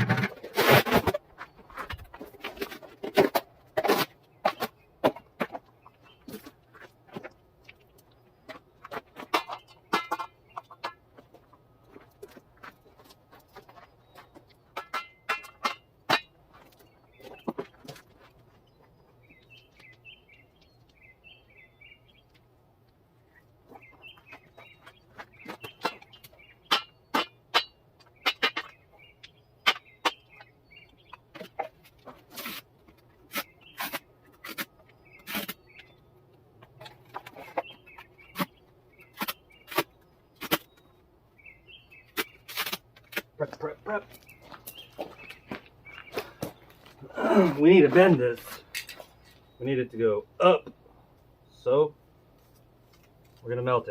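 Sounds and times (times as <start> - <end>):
bird calls: 4.3 - 22.4, 23.2 - 51.8.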